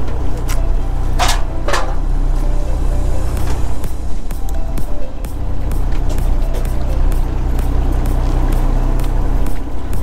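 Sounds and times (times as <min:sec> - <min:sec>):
low drone: 0:00.0 - 0:10.0
music with steady beat: 0:00.4 - 0:10.0.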